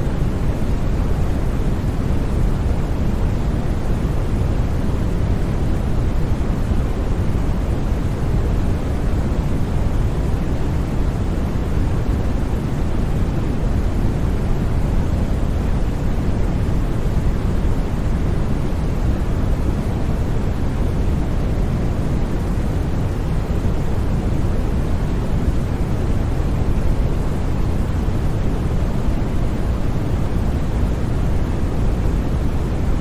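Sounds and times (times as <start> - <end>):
deep white noise rush: 0.0 - 33.0.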